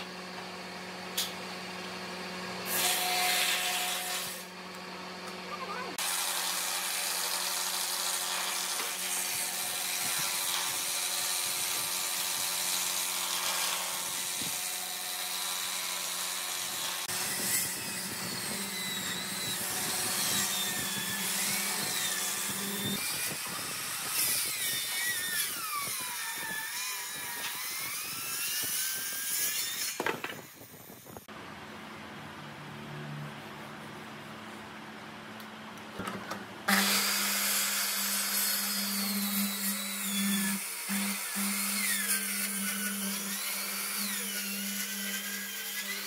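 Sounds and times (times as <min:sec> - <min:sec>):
circular saw cutting wood: 0:02.6 - 0:04.8, 0:05.6 - 0:31.3, 0:36.7 - 0:46.0.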